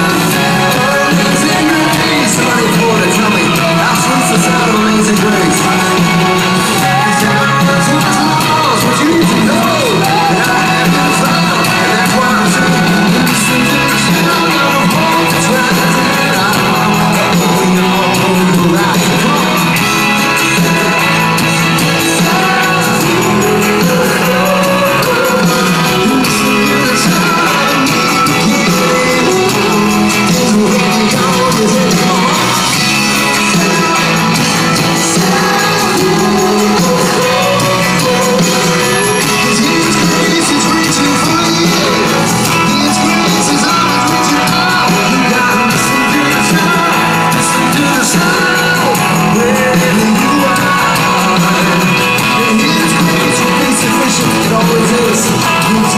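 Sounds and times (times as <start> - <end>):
drums: 0.0 - 55.9
electric guitar: 0.0 - 55.9
person singing into microphone: 0.0 - 55.9
rock band playing: 0.0 - 55.9.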